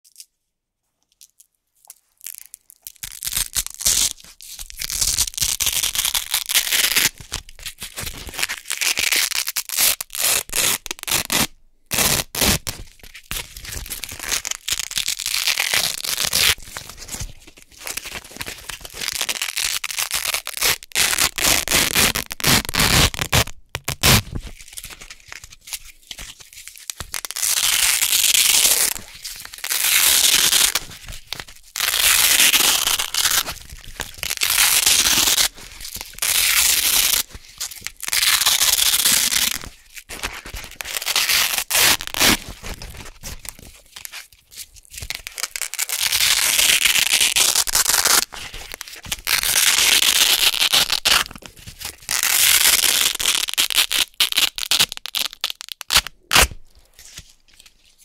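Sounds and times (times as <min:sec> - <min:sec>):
hook-and-loop strips ripping apart: 0:01.2 - 0:12.8, 0:13.6 - 0:25.4, 0:26.1 - 0:44.1, 0:45.0 - 0:56.6.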